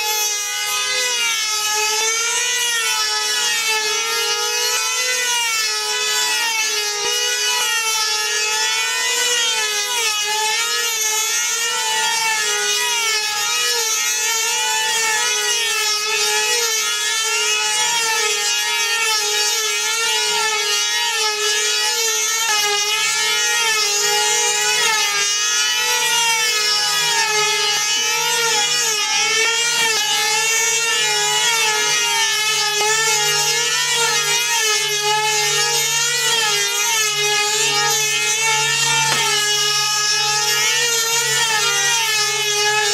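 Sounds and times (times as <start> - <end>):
model plane engine whine: 0.0 - 42.9.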